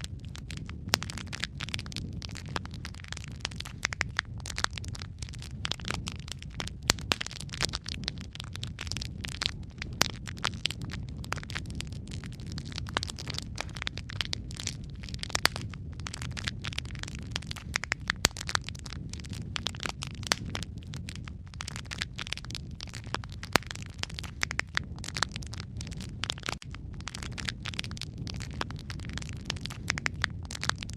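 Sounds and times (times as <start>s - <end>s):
burning wood pops: 0.0s - 30.9s
fire crackling: 0.0s - 30.9s
low rumble of flames: 0.0s - 30.9s.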